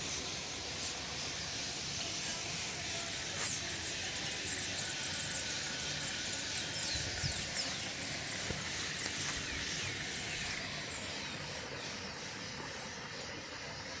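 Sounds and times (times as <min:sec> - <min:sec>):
birds chirping: 0:00.0 - 0:13.5.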